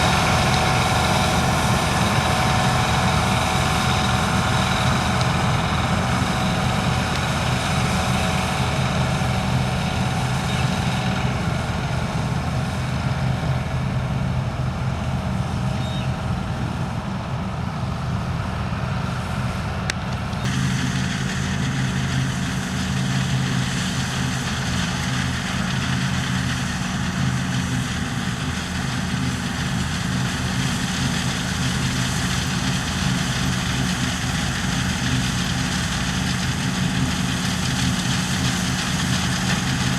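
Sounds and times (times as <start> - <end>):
threshing machinery running: 0.0 - 18.6, 19.2 - 39.9
diesel engine running: 0.0 - 39.9.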